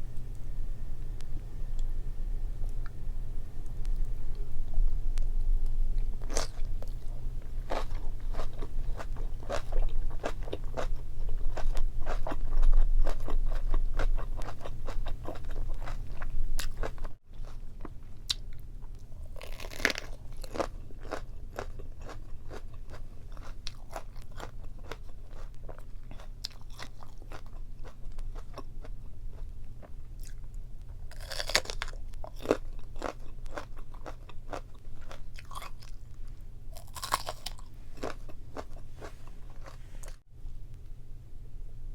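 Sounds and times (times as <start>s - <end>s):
chewing with crunches: 3.6s - 40.2s.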